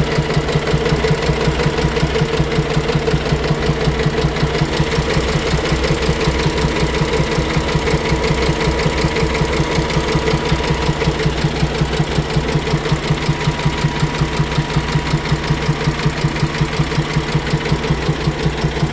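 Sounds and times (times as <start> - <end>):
diesel engine idling: 0.0 - 18.9
rhythmic engine knock: 0.0 - 18.9.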